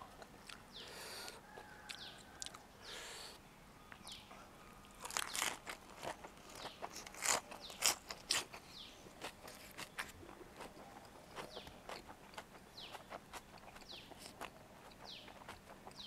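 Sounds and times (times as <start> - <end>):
crunching and chewing food: 0.0 - 2.7, 4.8 - 16.0.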